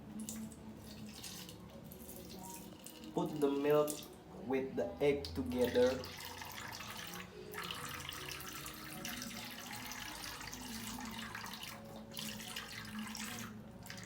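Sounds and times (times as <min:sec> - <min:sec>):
milk pouring into bowl: 0:00.1 - 0:04.2, 0:05.2 - 0:14.0.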